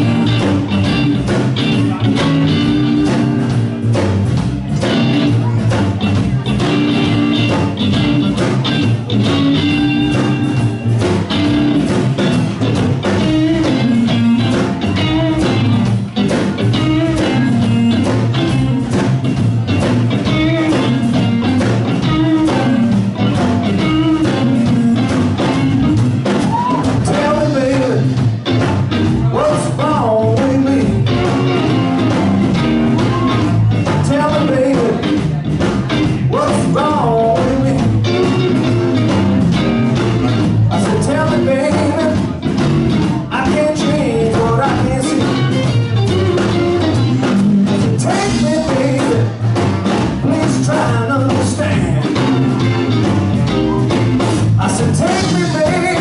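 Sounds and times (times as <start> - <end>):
electric blues band playing: 0.0 - 56.0.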